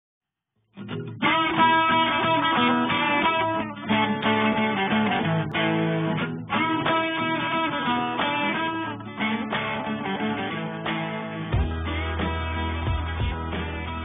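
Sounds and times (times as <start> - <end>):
guitar background music: 0.7 - 14.0.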